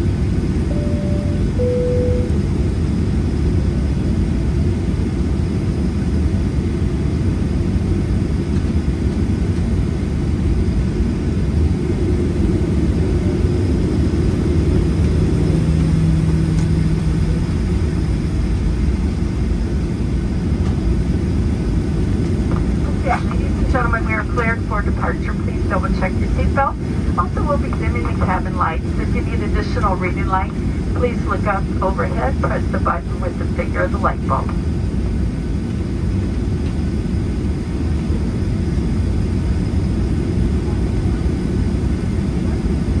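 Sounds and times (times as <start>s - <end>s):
faint hum: 0.0s - 43.0s
jet engines low rumble: 0.0s - 43.0s.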